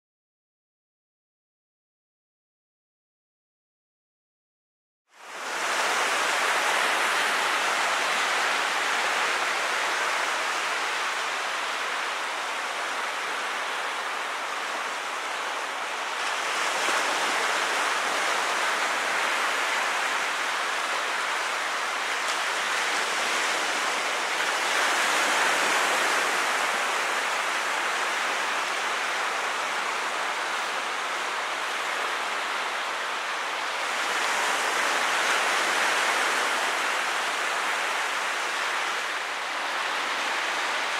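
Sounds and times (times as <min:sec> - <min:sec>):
ocean waves breaking on beach: 0:05.1 - 0:40.9.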